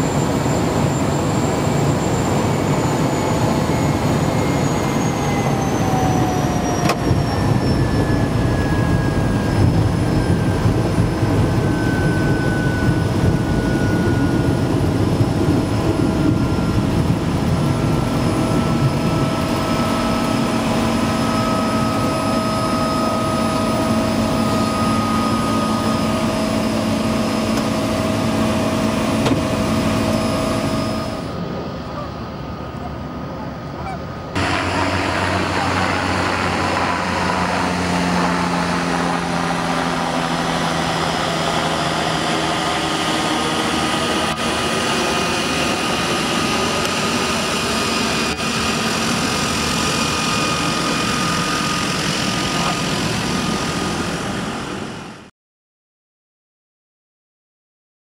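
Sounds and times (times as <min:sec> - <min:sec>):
floatplane engine from inside cabin: 0:00.0 - 0:55.3
turbine engine and propeller whine: 0:00.0 - 0:55.3.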